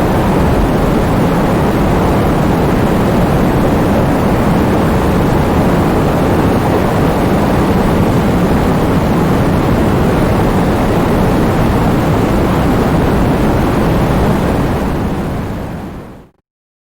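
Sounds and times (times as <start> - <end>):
heavy rain: 0.0 - 16.1
strong wind: 0.0 - 16.4.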